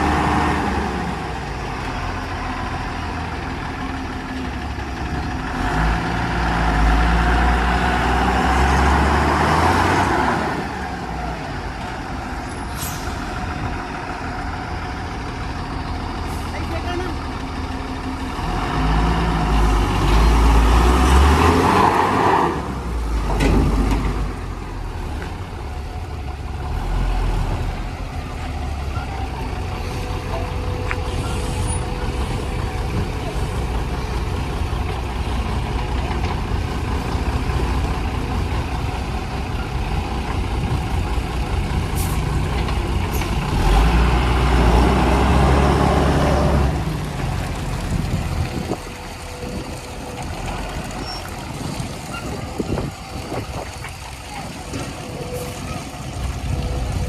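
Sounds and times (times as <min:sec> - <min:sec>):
diesel engines revving: 0:00.0 - 0:57.0.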